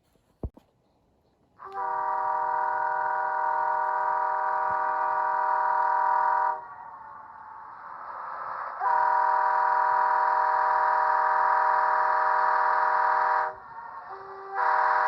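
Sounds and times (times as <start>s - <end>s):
locomotive air horn blast: 1.6s - 15.0s.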